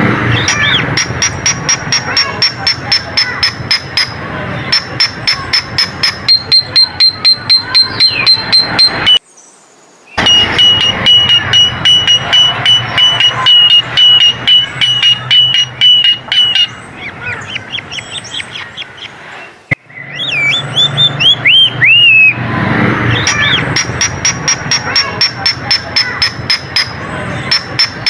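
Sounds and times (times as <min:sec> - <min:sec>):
bird calling: 0:00.2 - 0:22.4, 0:23.1 - 0:28.0.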